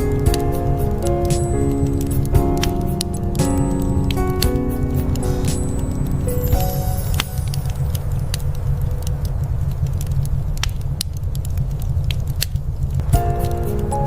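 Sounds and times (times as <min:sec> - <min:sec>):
sharp pops of fire: 0:00.0 - 0:13.9
wood fire crackling: 0:00.0 - 0:14.0.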